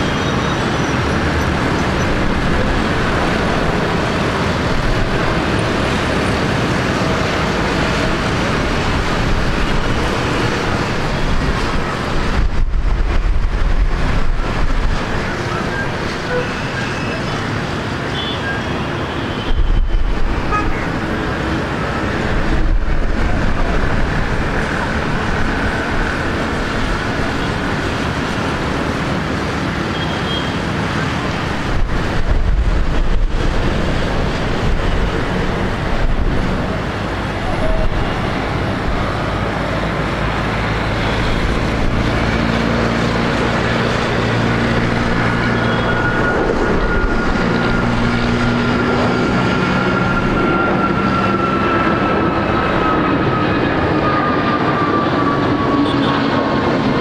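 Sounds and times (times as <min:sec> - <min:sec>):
jet engines rumbling with whine: 0:00.0 - 0:57.0.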